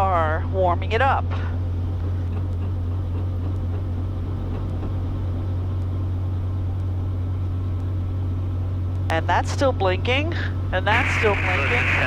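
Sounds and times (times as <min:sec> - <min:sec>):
helicopter engine and rotor hum: 0:00.0 - 0:12.0.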